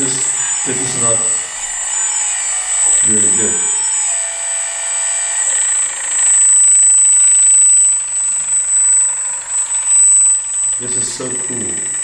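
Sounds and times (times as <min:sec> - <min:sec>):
electric motors and gearboxes whining: 0:00.0 - 0:12.0
steady high-pitched whine: 0:00.0 - 0:12.0.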